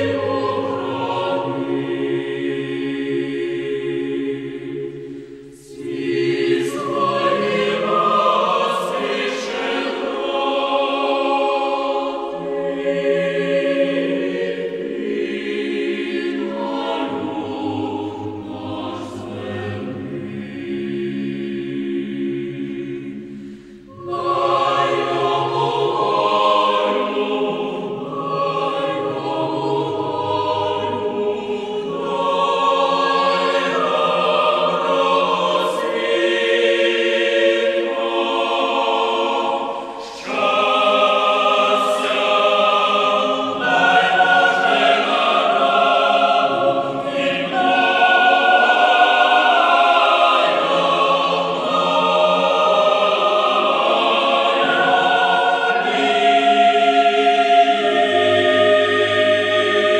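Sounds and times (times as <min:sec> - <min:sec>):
choir singing slow song: 0:00.0 - 0:59.9.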